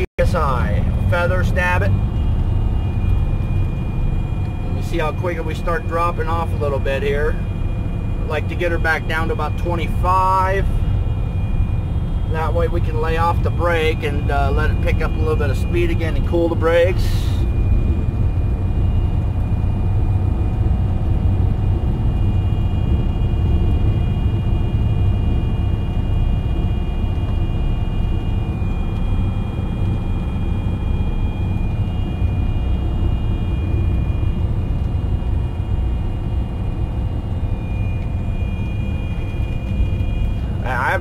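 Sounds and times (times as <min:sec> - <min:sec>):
truck engine and road rumble: 0:00.0 - 0:41.0.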